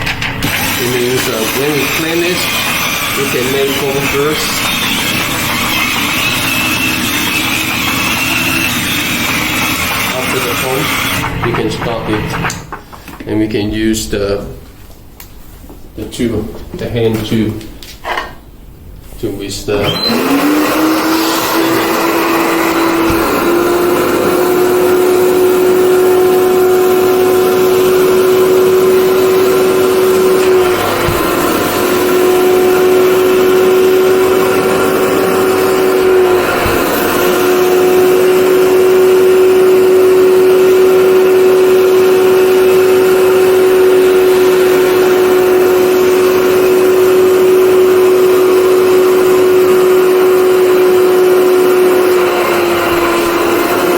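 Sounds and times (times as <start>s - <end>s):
carpet cleaner motor whining: 0.0s - 13.1s, 19.8s - 53.9s.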